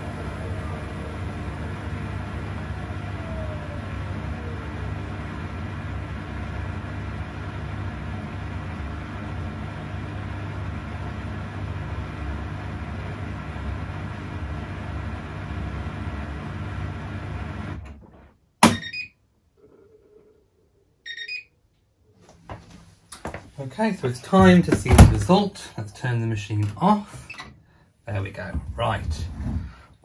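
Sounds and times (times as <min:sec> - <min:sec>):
washing machine humming: 0:00.0 - 0:19.1, 0:22.3 - 0:30.0.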